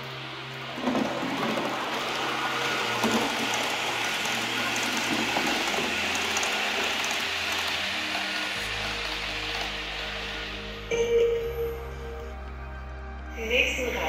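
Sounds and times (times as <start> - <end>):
model train wheels rolling: 0.0 - 12.3.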